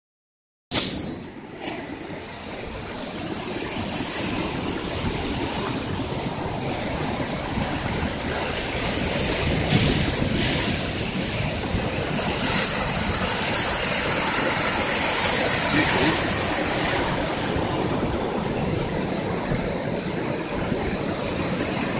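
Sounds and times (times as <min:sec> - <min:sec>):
ocean surf breaking on rocks: 0:00.7 - 0:21.9
wind buffeting microphone: 0:00.8 - 0:21.9.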